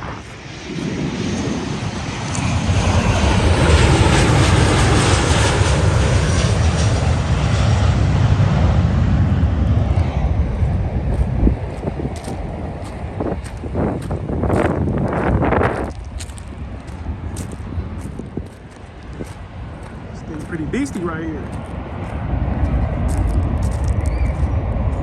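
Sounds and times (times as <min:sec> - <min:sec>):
jet airliner engine roar: 0:00.0 - 0:25.0.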